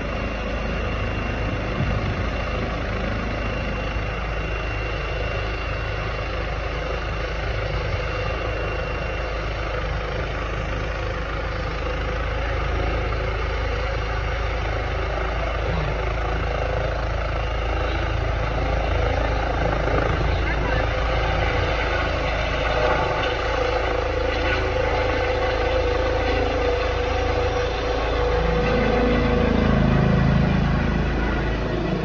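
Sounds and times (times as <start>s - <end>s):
helicopter engine and rotor: 0.0s - 32.0s.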